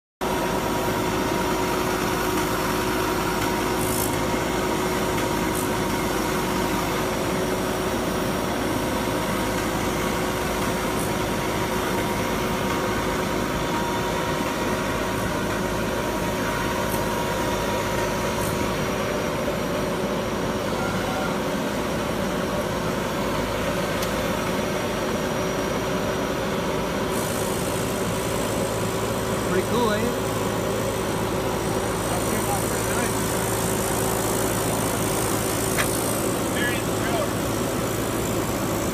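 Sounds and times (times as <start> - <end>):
drill rig running: 0.2 - 38.9
faint steady whine: 0.2 - 38.9.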